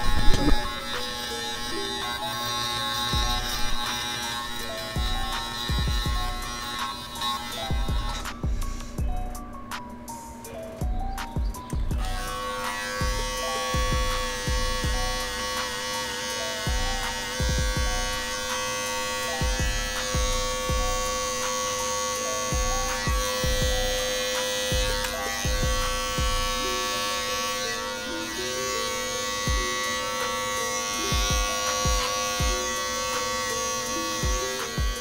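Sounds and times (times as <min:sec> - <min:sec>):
background music with steady beat: 0:00.0 - 0:35.0
electric hair clippers buzzing: 0:00.0 - 0:35.0.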